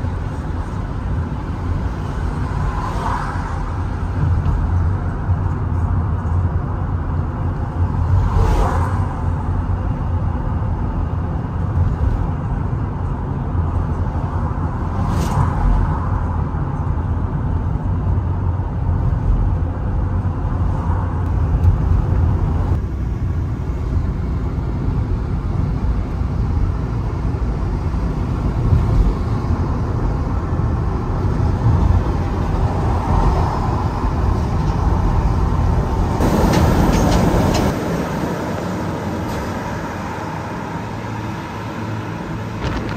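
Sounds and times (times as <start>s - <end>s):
car engine and tyres rumbling: 0.0s - 42.9s.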